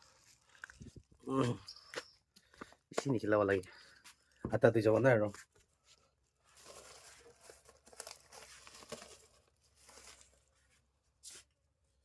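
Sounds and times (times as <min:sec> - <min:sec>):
faint rustling and crinkling: 0:00.0 - 0:12.0.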